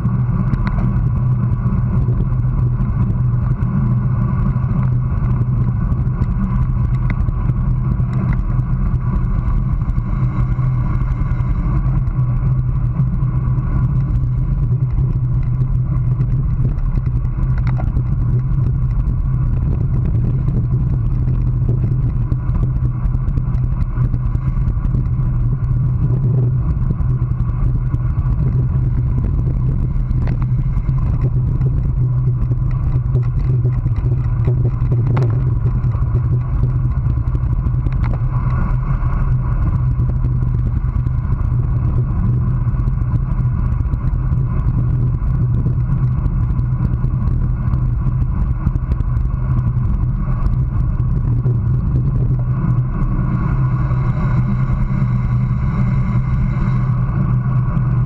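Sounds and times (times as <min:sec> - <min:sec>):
wind rumble: 0:00.0 - 0:58.0
tyres on asphalt: 0:00.1 - 0:55.6.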